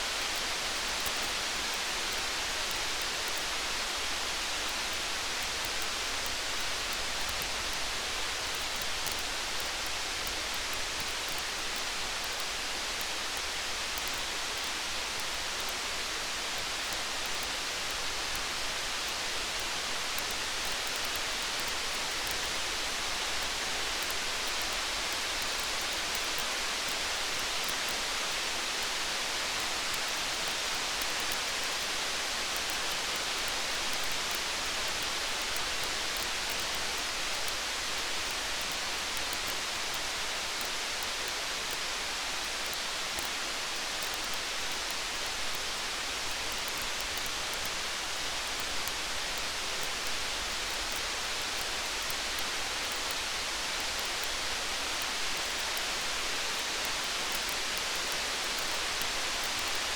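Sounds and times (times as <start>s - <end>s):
faint fine ticks: 0.0s - 59.9s
steady rain hiss: 0.0s - 59.9s.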